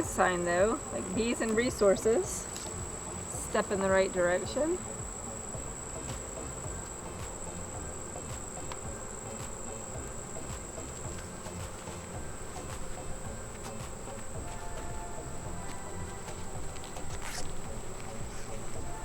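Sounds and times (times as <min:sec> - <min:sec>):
honeybees buzzing: 0:00.0 - 0:19.0
steady high-pitched whine: 0:00.0 - 0:19.0.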